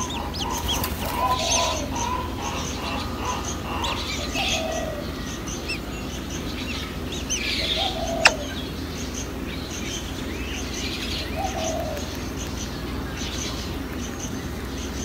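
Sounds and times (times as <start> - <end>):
nestlings begging chirps: 0.0 - 15.0.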